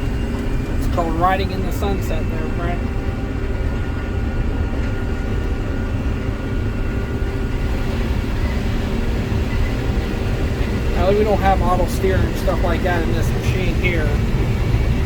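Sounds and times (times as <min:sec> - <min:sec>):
combine harvester low rumble: 0:00.0 - 0:15.0
faint steady machine tones: 0:00.0 - 0:15.0.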